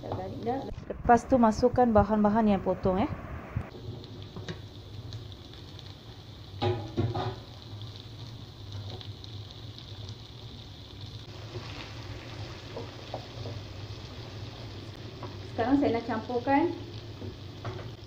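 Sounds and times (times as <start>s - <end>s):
vegetables sizzling in oil: 0.0s - 3.1s, 3.7s - 18.0s.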